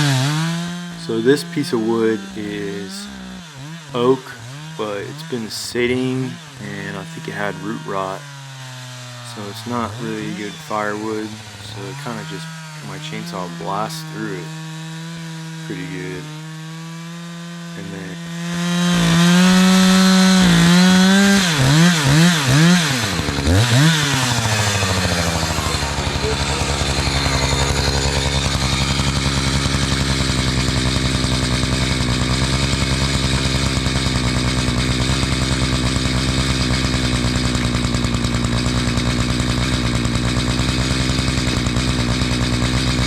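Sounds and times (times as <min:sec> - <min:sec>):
chainsaw revving and idling: 0:00.0 - 0:43.0.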